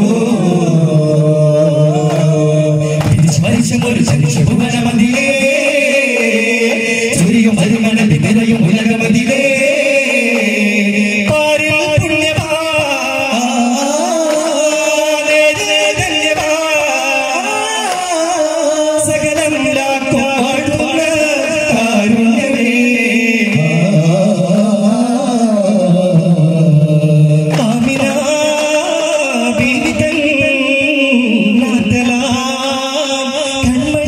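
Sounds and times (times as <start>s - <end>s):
person singing through a pa: 0.0s - 26.4s, 27.5s - 34.0s
frame drums struck in rhythm: 0.0s - 34.0s.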